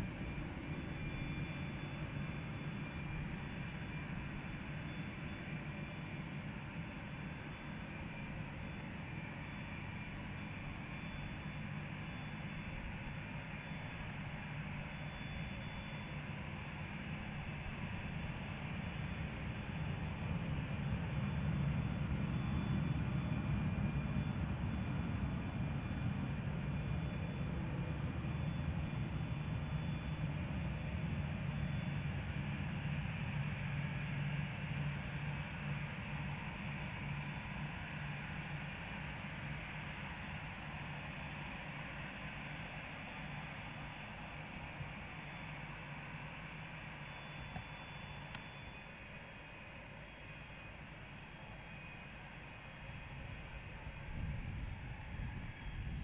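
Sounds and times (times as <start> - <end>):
insects chirping: 0.0 - 56.0
jet airliner engine rumble: 0.0 - 56.0.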